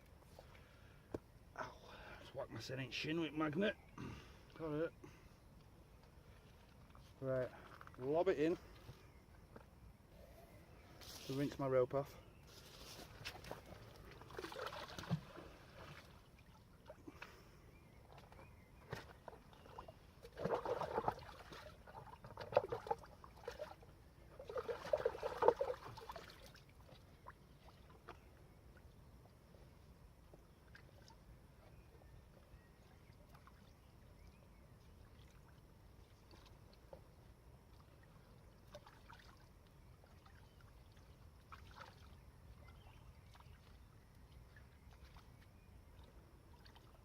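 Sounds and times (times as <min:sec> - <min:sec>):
water splashing and trickling: 0:00.1 - 0:09.8, 0:10.9 - 0:47.0.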